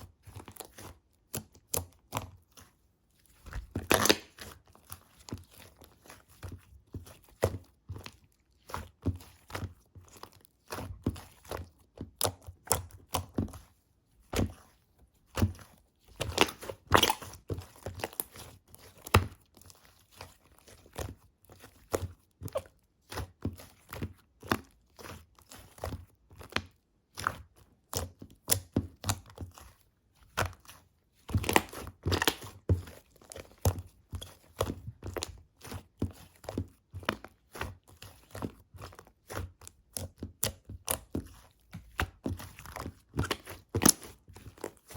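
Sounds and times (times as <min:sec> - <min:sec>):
slime squished by hand: 0:00.1 - 0:44.9.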